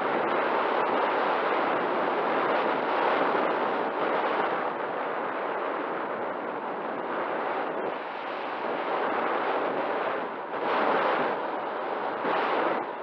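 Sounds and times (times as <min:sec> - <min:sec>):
wind rushing over camera: 0:00.0 - 0:13.0.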